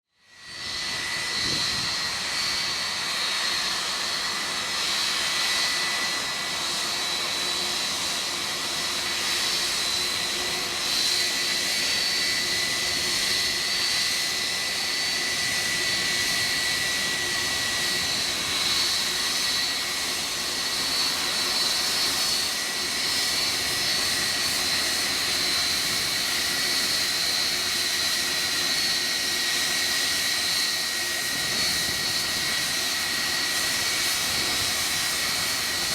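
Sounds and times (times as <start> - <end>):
high jet engine whine: 0.1 - 35.9
jet engines rushing: 0.4 - 35.9.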